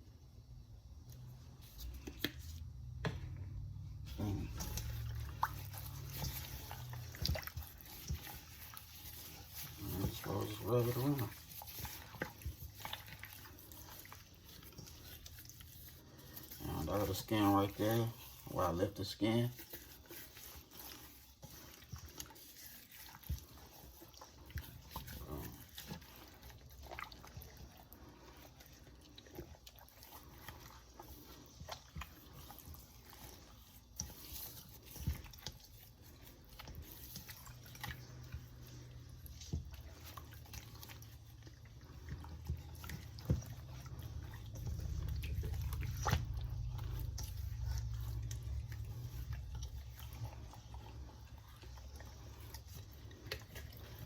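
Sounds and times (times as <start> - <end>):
wet squishing and slapping: 0.0 - 54.0.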